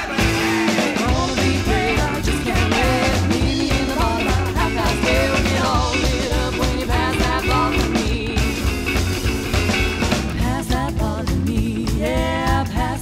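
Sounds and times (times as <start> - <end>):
upbeat background music: 0.0 - 13.0.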